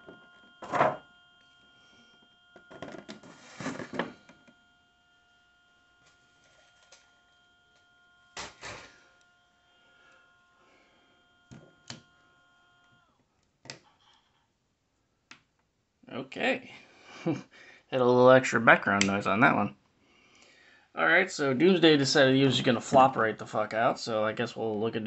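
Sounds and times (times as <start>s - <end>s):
steady multi-tone whine: 0.0s - 14.1s, 16.1s - 25.0s.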